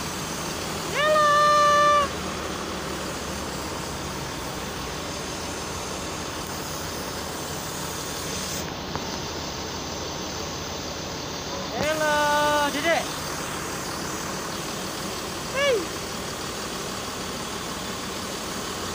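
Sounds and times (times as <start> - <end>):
bus diesel engine idling: 0.0 - 18.9.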